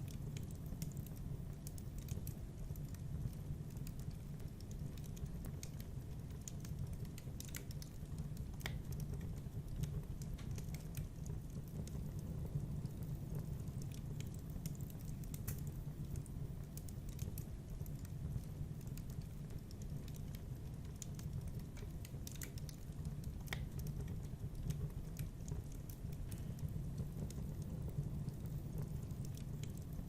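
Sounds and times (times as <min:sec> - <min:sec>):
low rumble of flames: 0:00.0 - 0:30.0
sharp pops and snaps: 0:00.0 - 0:30.0
wood fire crackling: 0:00.0 - 0:30.0.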